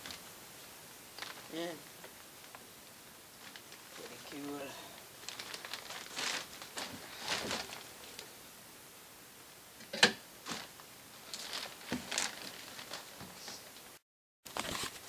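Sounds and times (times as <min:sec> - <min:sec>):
rustling and shuffling: 0:00.0 - 0:08.5, 0:10.4 - 0:15.0.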